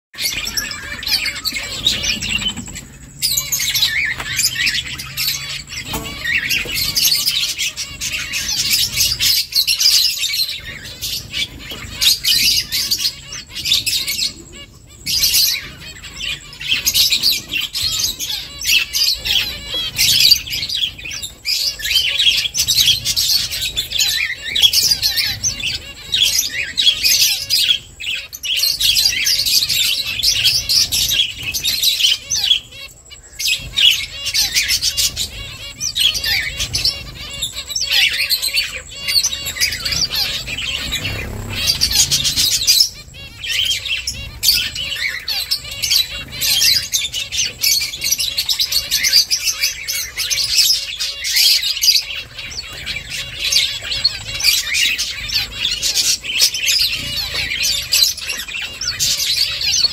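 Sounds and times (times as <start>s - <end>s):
finches chirping: 0.2s - 59.9s.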